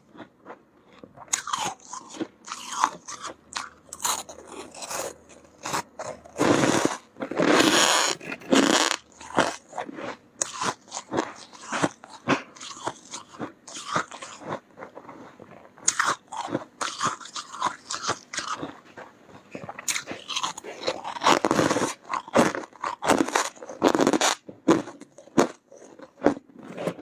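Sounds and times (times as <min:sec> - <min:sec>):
chewing crunchy frost: 0:00.0 - 0:27.0.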